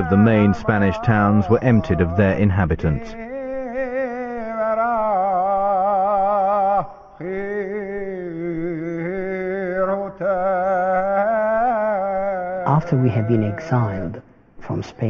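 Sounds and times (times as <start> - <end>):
solo voice singing chant-like melody: 0.0 - 15.0.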